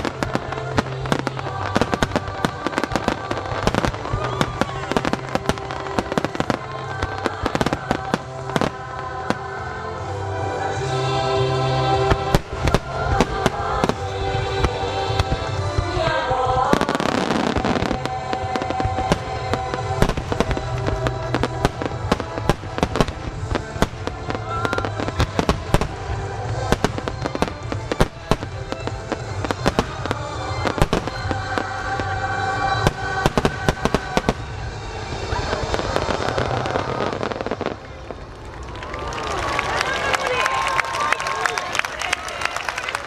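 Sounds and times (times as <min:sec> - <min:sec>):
fireworks bangs and crackles: 0:00.0 - 0:38.9
music playing: 0:00.0 - 0:43.0.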